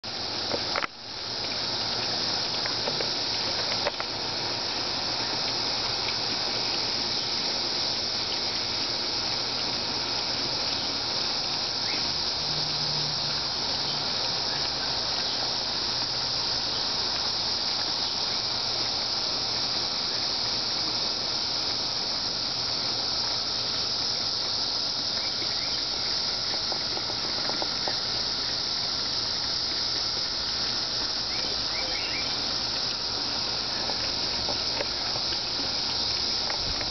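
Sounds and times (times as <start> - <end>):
cicadas singing: 0.0 - 36.9.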